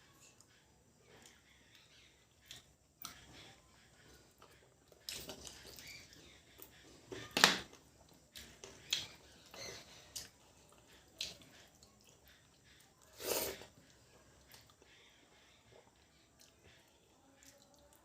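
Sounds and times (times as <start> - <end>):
wet chewing and smacking: 0.4 - 18.0.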